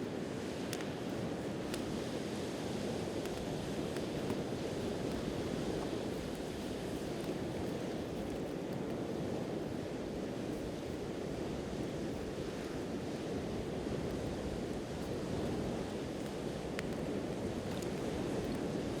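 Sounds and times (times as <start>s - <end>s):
campfire crackles: 0.0s - 19.0s
sea surf washing ashore: 0.0s - 19.0s.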